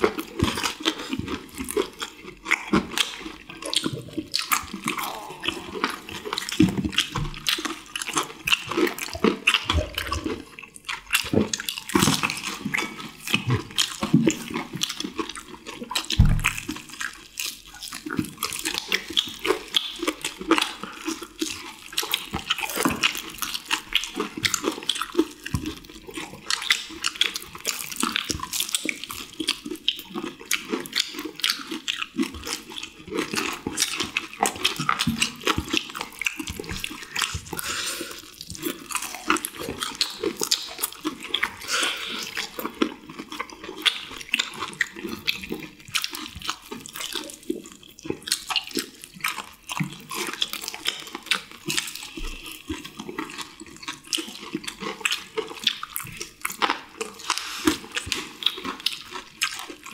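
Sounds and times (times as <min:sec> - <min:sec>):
people chewing crunchy food: 0:00.0 - 0:59.9.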